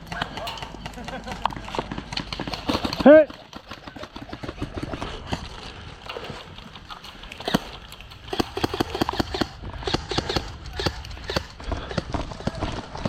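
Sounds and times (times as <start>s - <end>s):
footsteps on rough ground: 0.0s - 13.0s.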